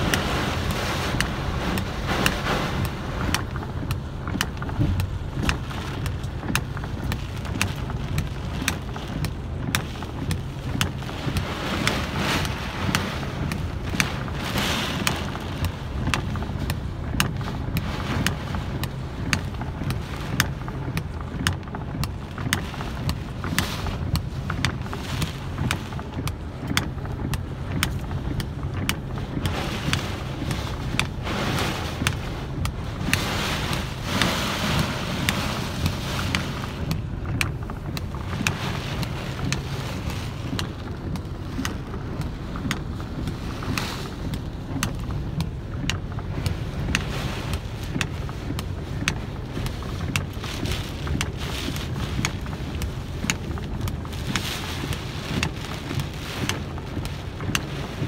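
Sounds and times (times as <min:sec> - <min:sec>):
raindrops ticking on glass: 0:00.0 - 0:58.0
vehicle engine hum: 0:00.0 - 0:58.0.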